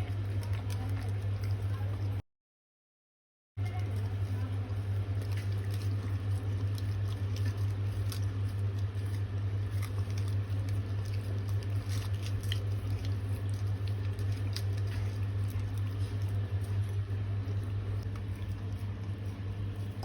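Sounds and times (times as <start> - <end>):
dog licking and eating: 3.6 - 20.0.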